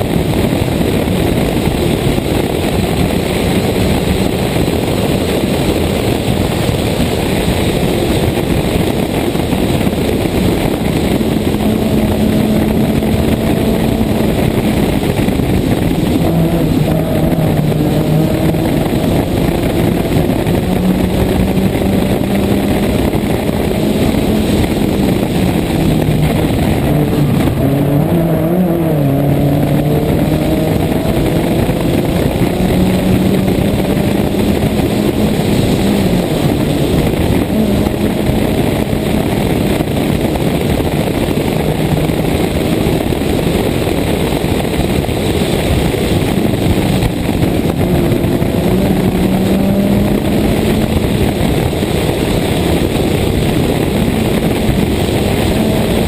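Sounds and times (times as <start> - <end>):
rally car engine driven hard: 0.0 - 56.0
wind rush on microphone: 0.0 - 56.0.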